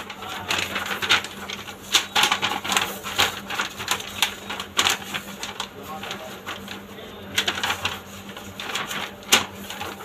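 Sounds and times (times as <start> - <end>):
paper rustling and crackling: 0.0 - 10.0.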